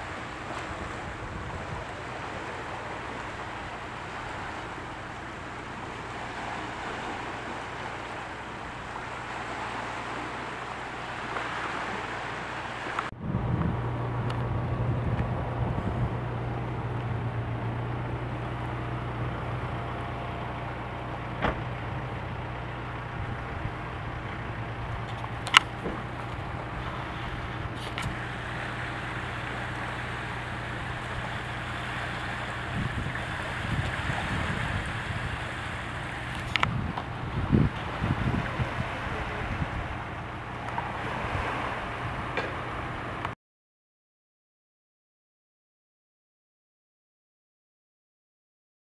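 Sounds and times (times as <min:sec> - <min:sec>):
low engine hum: 0:00.0 - 0:43.4
steady outdoor rushing noise: 0:00.0 - 0:43.4.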